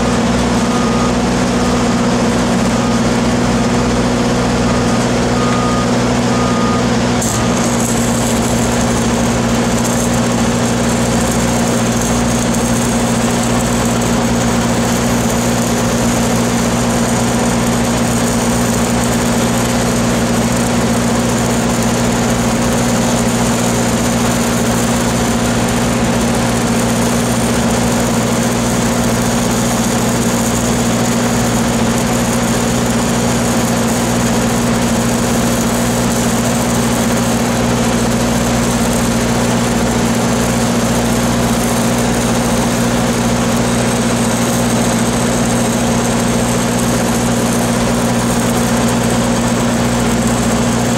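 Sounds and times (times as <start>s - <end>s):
heavy machinery engines droning: 0.0s - 50.9s.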